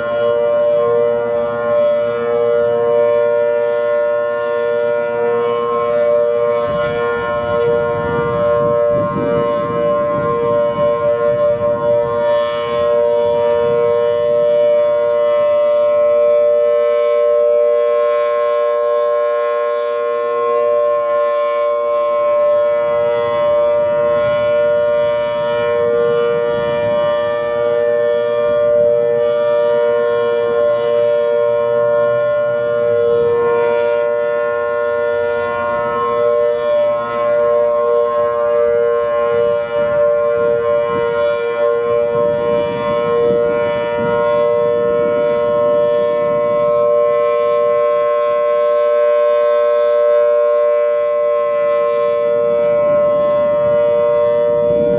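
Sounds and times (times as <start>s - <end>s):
warning siren steady two-note chord: 0.0s - 54.9s.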